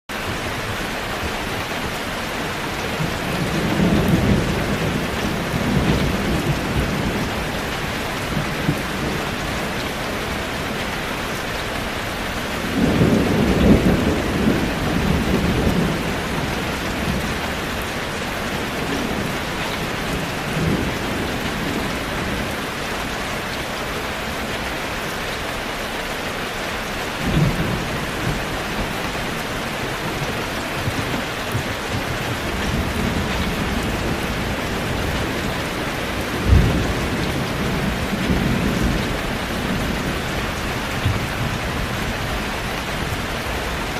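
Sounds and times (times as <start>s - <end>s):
heavy rain on a metal roof: 0.1s - 43.9s
thunder rumbling: 2.8s - 11.4s, 12.0s - 23.1s, 27.1s - 43.9s.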